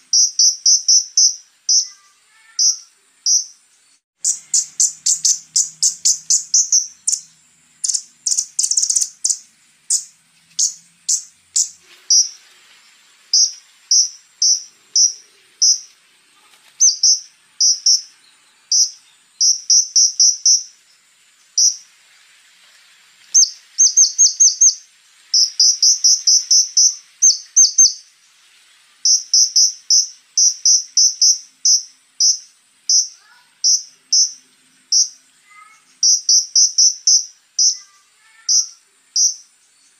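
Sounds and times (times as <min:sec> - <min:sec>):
faint high insect-like buzz: 0:00.0 - 0:39.9
songbird chirping: 0:00.0 - 0:39.9.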